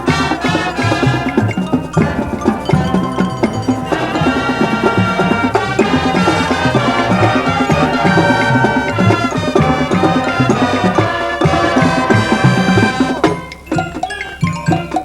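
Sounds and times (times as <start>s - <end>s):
brass and winds chords: 0.0s - 13.6s
drums and percussion: 0.0s - 15.0s.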